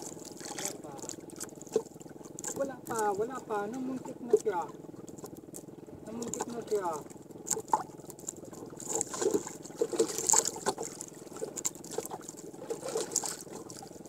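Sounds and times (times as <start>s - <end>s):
water lapping against canoe hull: 0.0s - 14.0s.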